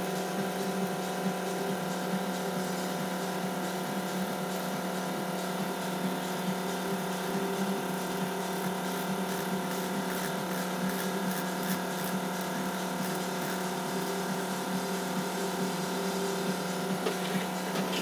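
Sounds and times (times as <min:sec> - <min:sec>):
small motor humming with whine: 0:00.0 - 0:18.0.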